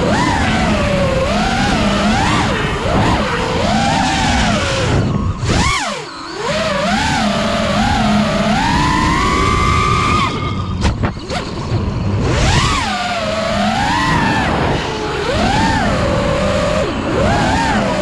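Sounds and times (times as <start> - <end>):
drone propellers whining: 0.0 - 18.0.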